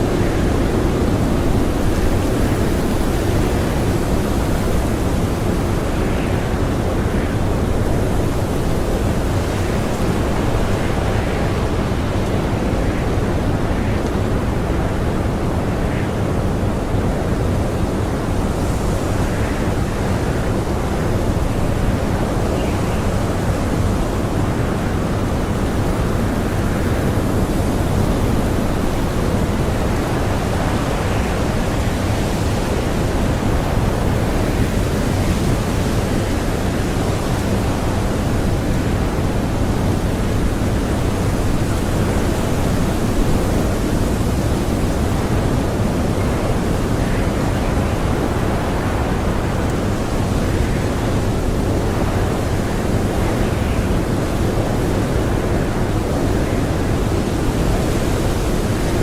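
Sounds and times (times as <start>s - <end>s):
strong blizzard wind blowing: 0.0s - 59.0s.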